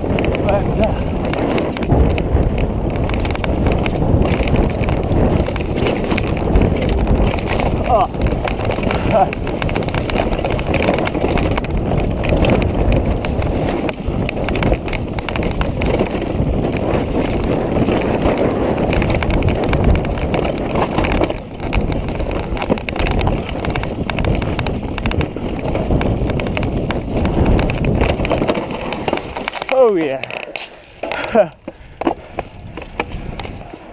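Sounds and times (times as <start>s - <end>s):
bike chain rattling: 0.0s - 33.9s
bike tyres crunching over rocks: 0.0s - 33.9s
wind noise on microphone: 0.0s - 33.9s.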